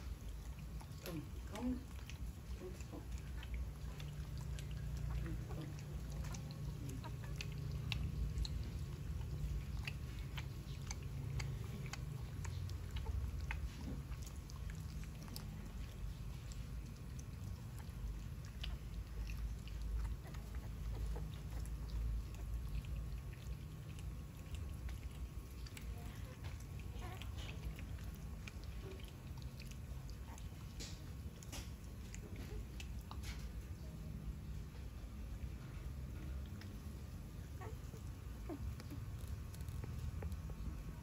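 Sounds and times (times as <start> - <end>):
dog licking with wet tongue: 0.0 - 41.0.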